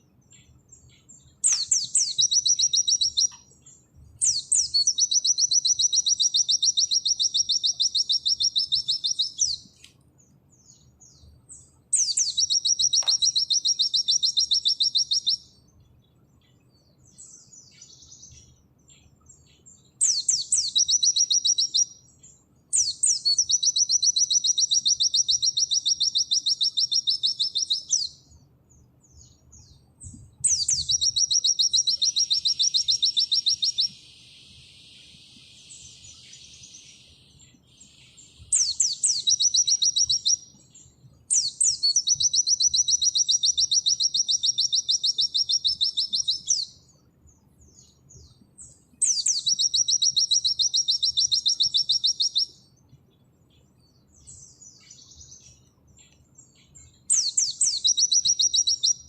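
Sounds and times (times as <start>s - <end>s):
bird singing high rattling trill: 0.0s - 9.7s, 10.5s - 15.7s, 16.6s - 29.8s, 30.4s - 46.9s, 47.6s - 52.6s, 53.6s - 59.0s.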